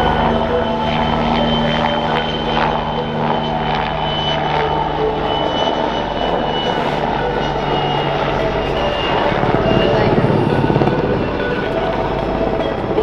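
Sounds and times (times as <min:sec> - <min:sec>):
helicopter in flight: 0:00.0 - 0:13.0.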